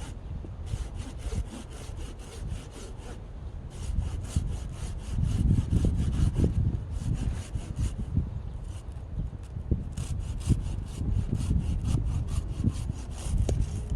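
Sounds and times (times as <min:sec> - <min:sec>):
saw cutting through wood: 0:00.7 - 0:08.8, 0:09.9 - 0:13.9.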